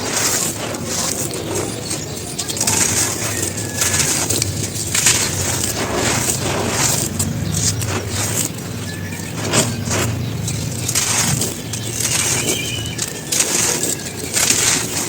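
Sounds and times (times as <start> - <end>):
cones crumbling and crunching: 0.0 - 15.0
steady low hum: 0.0 - 15.0.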